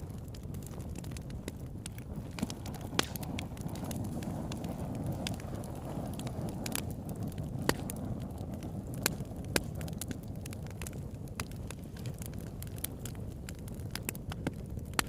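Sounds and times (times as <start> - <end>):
burning wood crackling and popping: 0.0 - 15.0
rush of flames: 0.0 - 15.0.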